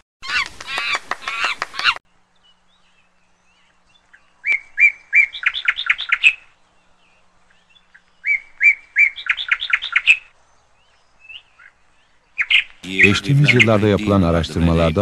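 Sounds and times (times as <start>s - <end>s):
bird singing: 0.3s - 15.0s.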